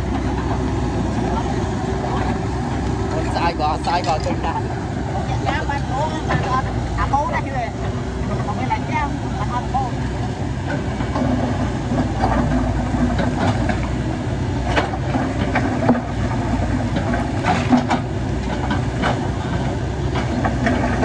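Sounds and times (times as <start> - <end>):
diesel machinery running: 0.0 - 21.0.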